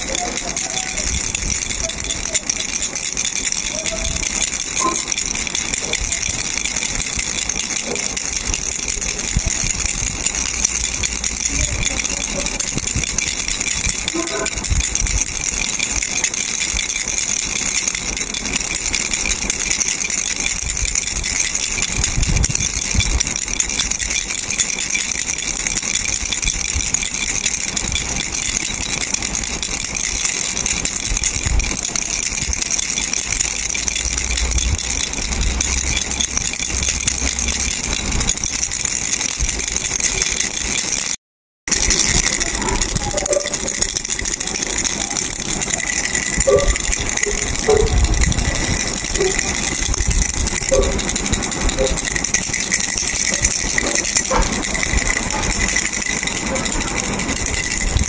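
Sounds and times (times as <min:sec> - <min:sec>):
plastic baby rattle shaking: 0:00.0 - 0:58.0.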